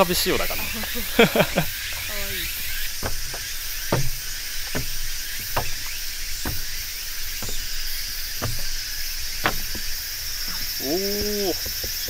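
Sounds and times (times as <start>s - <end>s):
footsteps on wooden stairs: 0.6s - 12.0s.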